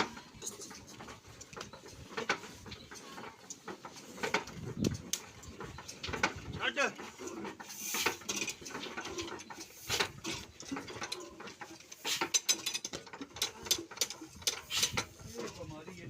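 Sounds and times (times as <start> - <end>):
mechanical clicking and clattering: 0.0 - 16.0.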